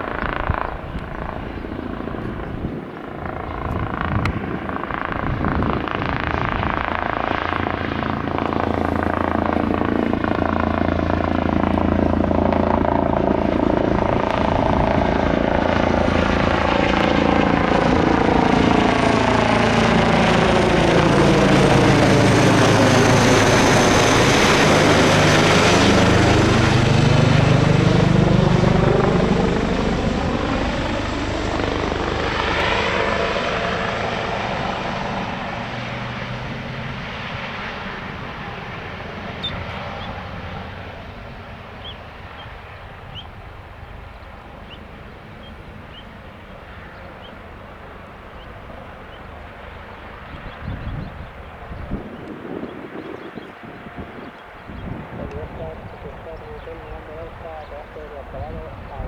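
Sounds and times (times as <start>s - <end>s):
helicopter flying past: 0.0s - 59.0s.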